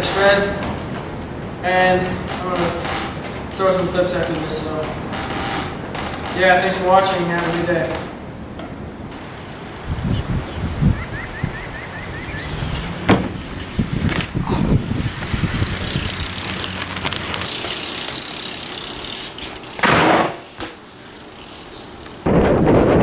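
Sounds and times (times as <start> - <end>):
bike tyres running on ground: 0.0 - 8.2, 9.0 - 23.0
bike rattling and knocking: 0.0 - 23.0.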